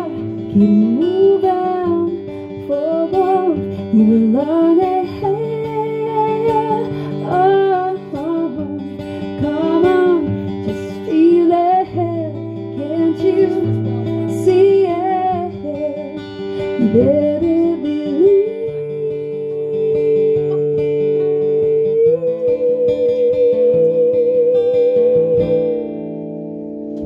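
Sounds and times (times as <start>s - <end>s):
woman singing: 0.0s - 26.5s
strummed acoustic guitar: 0.0s - 27.0s.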